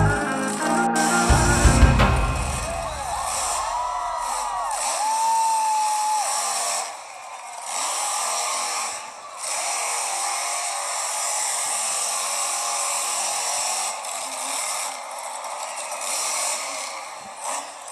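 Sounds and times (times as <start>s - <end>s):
monster truck engine revving: 0.0s - 17.9s.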